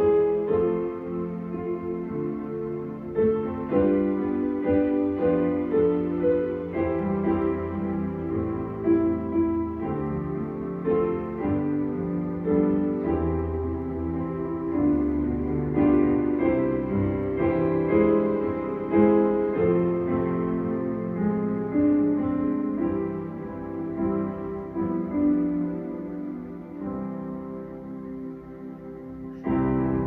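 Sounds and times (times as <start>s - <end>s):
piano chords: 0.0s - 30.0s.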